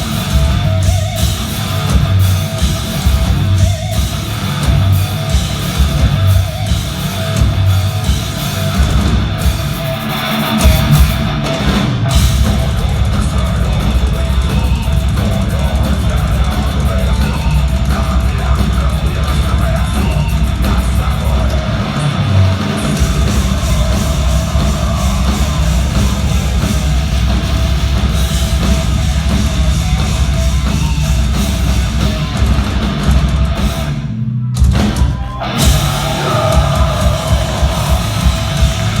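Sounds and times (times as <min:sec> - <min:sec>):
distorted electric guitars: 0:00.0 - 0:39.0
drum kit: 0:00.0 - 0:39.0.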